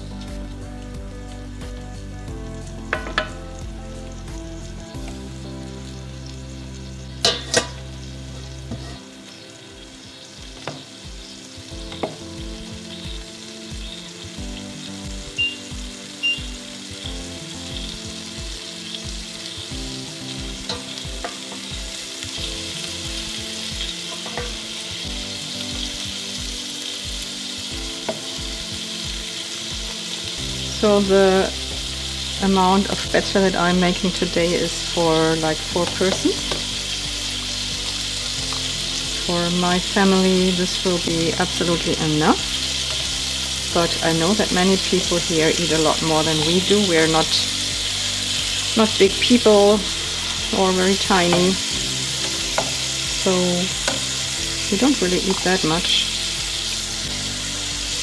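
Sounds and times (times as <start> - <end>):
background music with beat: 0.0 - 33.2, 35.7 - 39.5, 40.4 - 54.8, 56.0 - 58.0
food sizzling on stove: 0.0 - 58.0.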